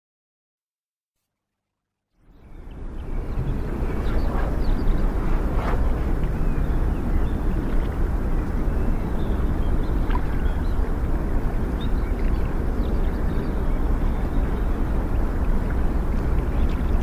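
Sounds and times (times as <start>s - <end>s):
low outdoor rumbling: 2.2s - 17.0s.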